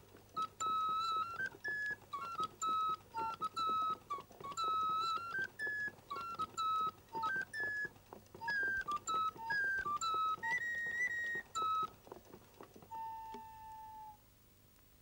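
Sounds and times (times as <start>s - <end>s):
solo flute melody: 0.4s - 11.9s, 12.9s - 14.2s.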